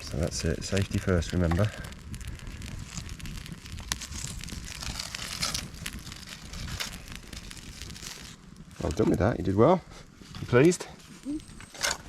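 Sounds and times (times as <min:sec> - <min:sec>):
campfire crackling and popping: 0:00.0 - 0:12.0
fire hissing: 0:00.0 - 0:12.0.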